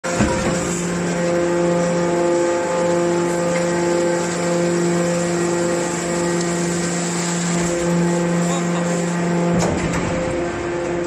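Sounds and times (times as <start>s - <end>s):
hydraulic pump motor humming: 0.0s - 11.0s.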